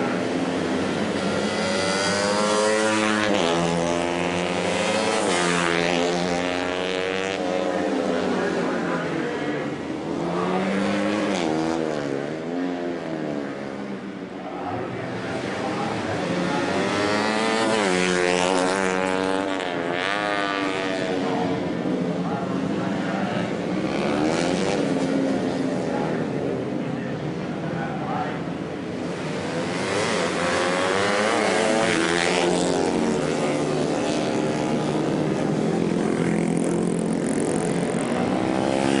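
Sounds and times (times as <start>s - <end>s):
motorcycle engines revving past: 0.0s - 39.0s.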